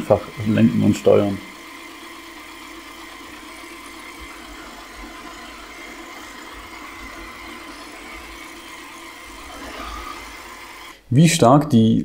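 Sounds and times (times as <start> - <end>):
robot vacuum motor hum: 0.0 - 11.1.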